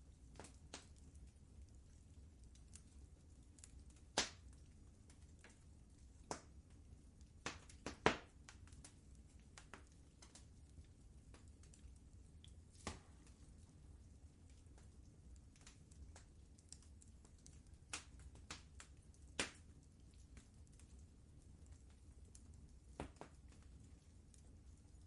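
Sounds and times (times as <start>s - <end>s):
low steady rumble: 0.0s - 7.5s, 8.3s - 25.0s
wood fire crackling: 0.0s - 25.0s.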